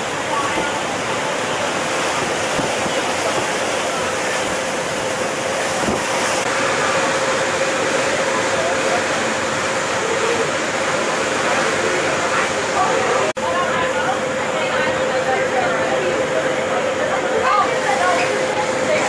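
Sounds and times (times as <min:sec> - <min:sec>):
boat engine drone: 0:00.0 - 0:19.0
rush of water and wind: 0:00.0 - 0:19.0.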